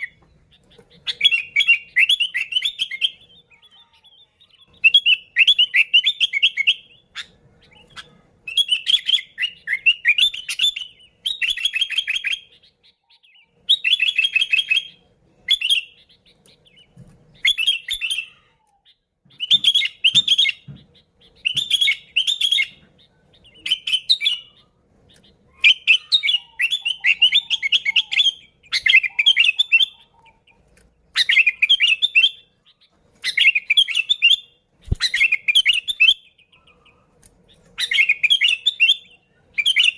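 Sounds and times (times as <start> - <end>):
bird singing chirping phrases: 0.0 - 39.9.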